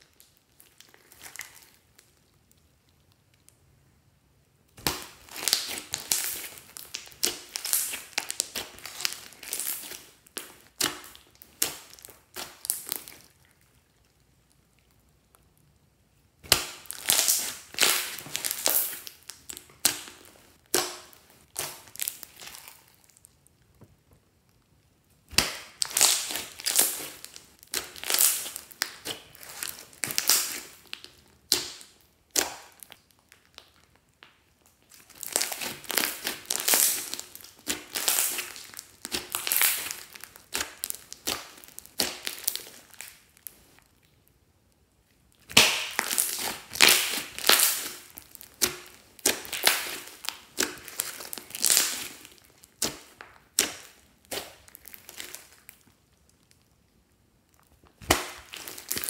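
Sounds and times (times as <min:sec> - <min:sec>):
slime squishing and crackling: 0:00.0 - 0:03.7, 0:04.6 - 0:59.0.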